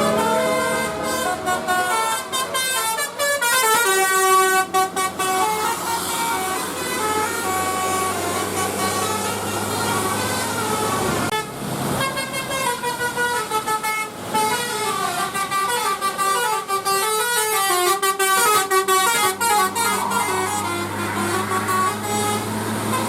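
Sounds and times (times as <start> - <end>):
bus engine idling: 0.0 - 23.0
musical bus horn playing a tune: 0.0 - 23.0.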